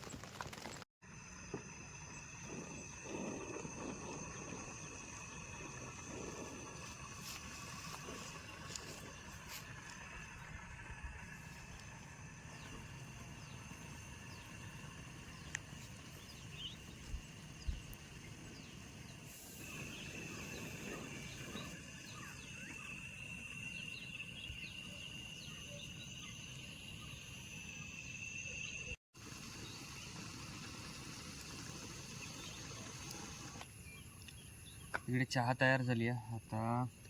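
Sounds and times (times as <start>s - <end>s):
insects trilling: 1.0s - 37.0s.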